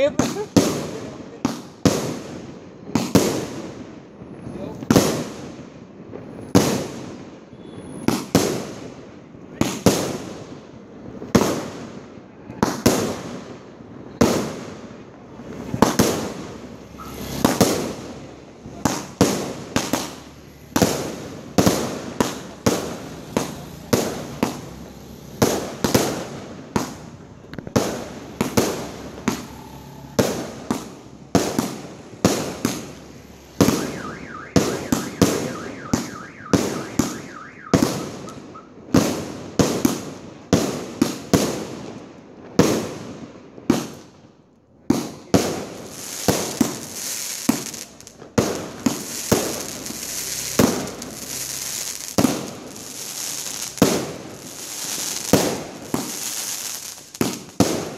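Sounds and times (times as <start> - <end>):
fireworks bangs: 0.0 - 44.2, 44.8 - 57.9.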